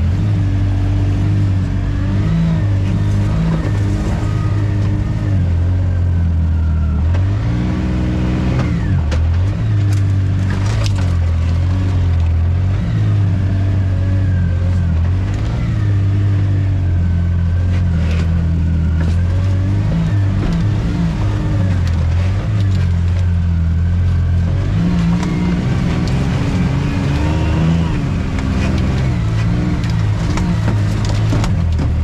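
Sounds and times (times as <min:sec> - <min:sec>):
off-road vehicle engine under load: 0:00.0 - 0:32.0.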